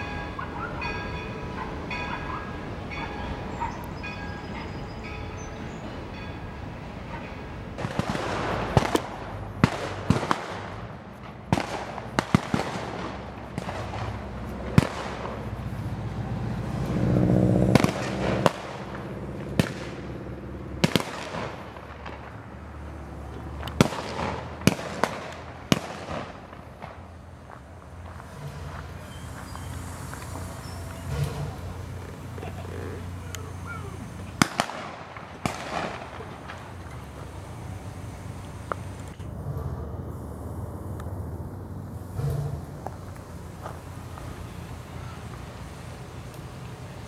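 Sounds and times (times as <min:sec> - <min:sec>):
steam locomotive running slowly: 0:00.0 - 0:47.0.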